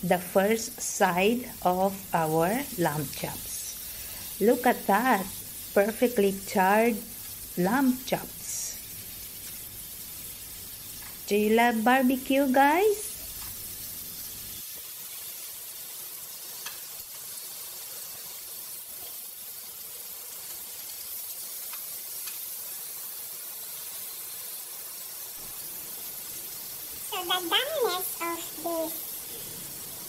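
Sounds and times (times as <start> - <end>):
meat sizzling on grill pan: 0.0 - 30.0.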